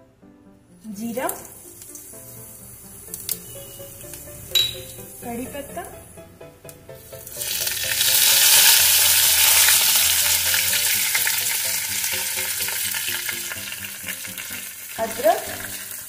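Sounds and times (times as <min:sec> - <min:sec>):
leaves sizzling in hot oil: 0:00.9 - 0:05.9, 0:07.0 - 0:16.0.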